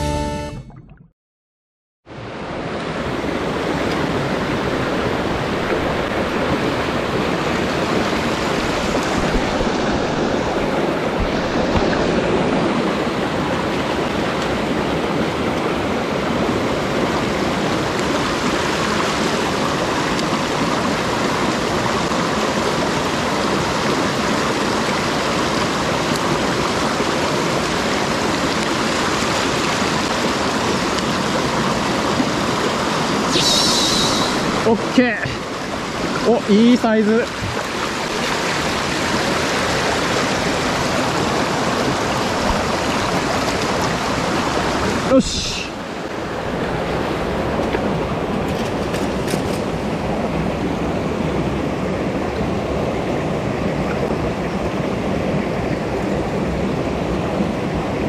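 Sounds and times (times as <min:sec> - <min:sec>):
mountain stream rushing: 0:02.1 - 0:58.0.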